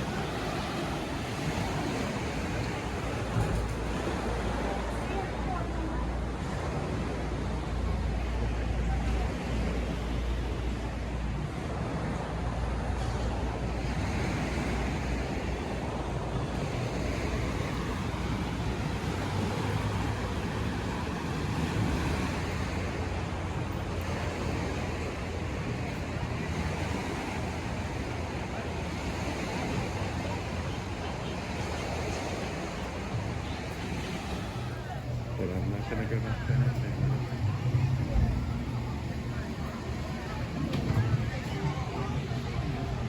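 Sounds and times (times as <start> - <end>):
rushing water: 0.0 - 43.0
wind rumble on microphone: 0.0 - 43.0.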